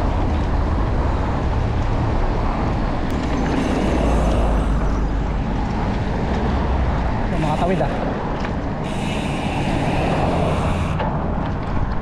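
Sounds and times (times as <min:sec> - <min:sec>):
bicycle road and wind noise: 0:00.0 - 0:12.0
cars passing: 0:00.0 - 0:12.0
heavy low rumble: 0:00.0 - 0:12.0.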